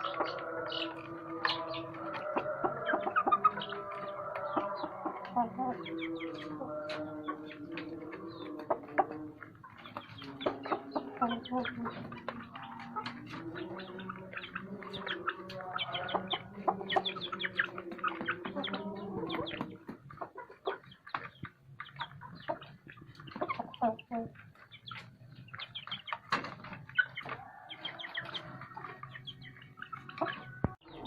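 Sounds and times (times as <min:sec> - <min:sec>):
chickens clucking and calling: 0:00.0 - 0:31.0.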